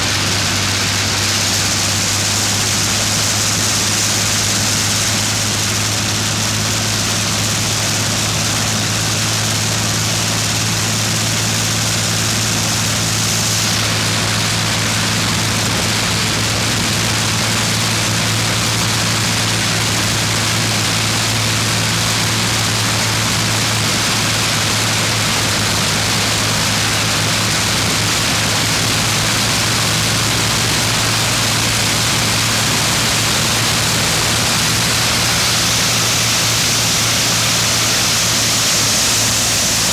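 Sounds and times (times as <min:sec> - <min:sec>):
aircraft piston engines droning: 0:00.0 - 0:39.9
propeller wash rushing: 0:00.0 - 0:39.9.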